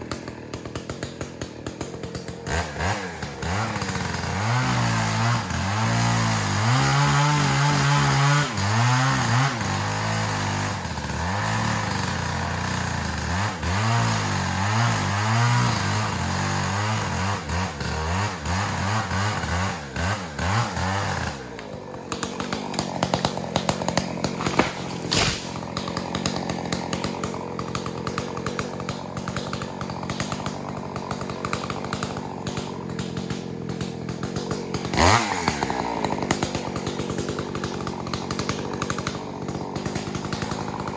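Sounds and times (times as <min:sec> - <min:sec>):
two-stroke chainsaw running: 0:00.0 - 0:40.9.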